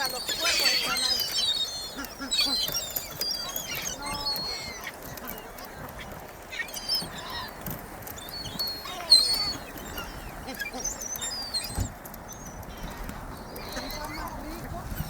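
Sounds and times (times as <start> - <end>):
flock of birds squawking: 0.0 - 15.0.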